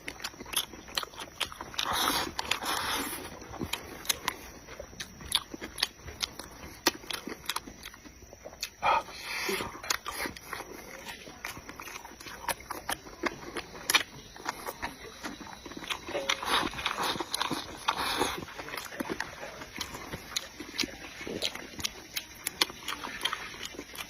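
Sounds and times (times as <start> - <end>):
chewing with mouth clicks: 0.0 - 24.0.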